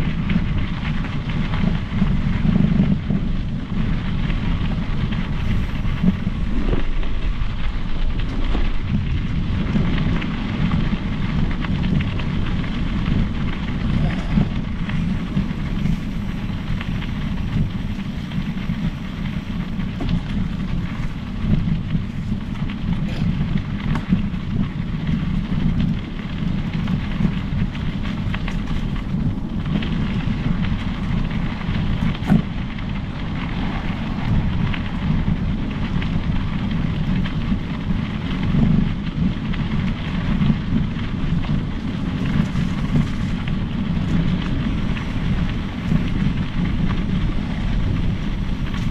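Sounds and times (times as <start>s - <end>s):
mountain bike rolling rumble: 0.0s - 48.9s
small clicks and ticks: 0.0s - 48.9s
wind buffeting microphone: 0.0s - 48.9s.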